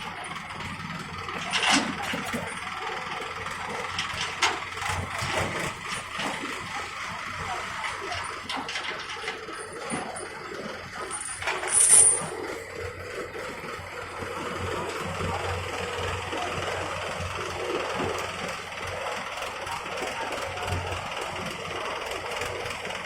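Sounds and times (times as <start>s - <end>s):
heavy vehicle engines running: 0.0s - 23.0s.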